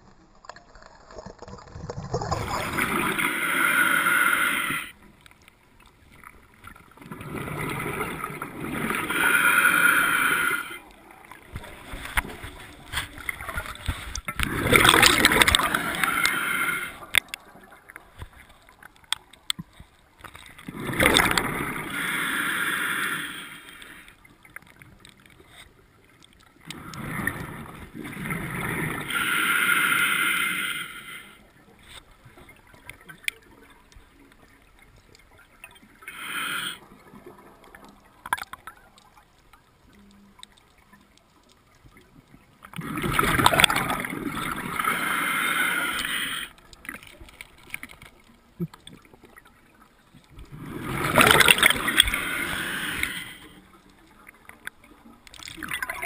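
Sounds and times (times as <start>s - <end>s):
underwater bubbles gurgling: 0.0s - 56.0s.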